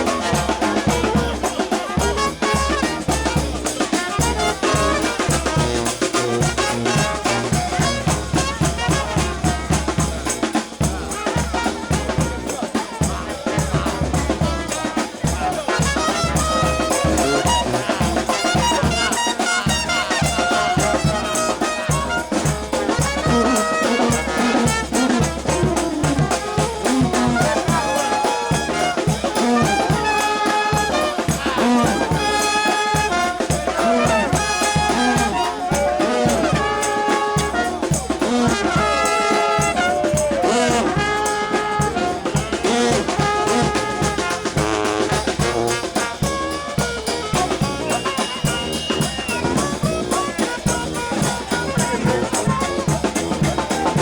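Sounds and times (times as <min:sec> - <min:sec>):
steady drum beat: 0:00.0 - 0:54.0
trumpets and trombones: 0:00.0 - 0:54.0.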